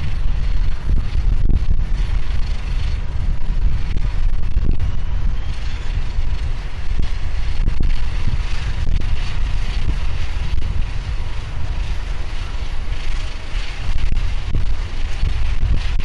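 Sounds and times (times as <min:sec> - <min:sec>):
jet engines hissing: 0:00.0 - 0:16.0
wind buffeting microphone: 0:00.0 - 0:16.0.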